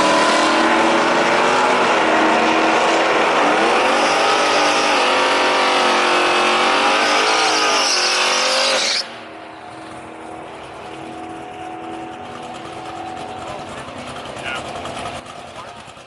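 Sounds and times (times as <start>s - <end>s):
pickup engine racing: 0.0s - 16.0s.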